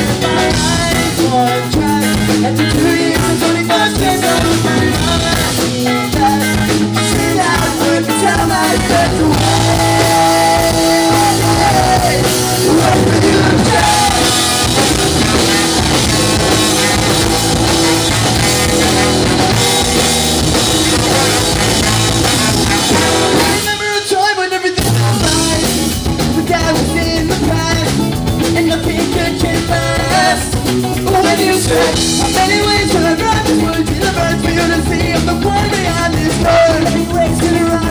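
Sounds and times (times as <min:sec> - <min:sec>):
ska-punk band playing live: 0:00.0 - 0:37.9.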